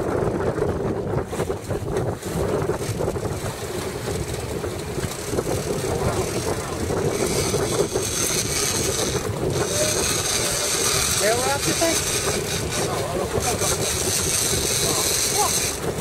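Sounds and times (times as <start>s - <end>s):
boat engine running: 0.0s - 16.0s
wind on microphone: 0.0s - 16.0s.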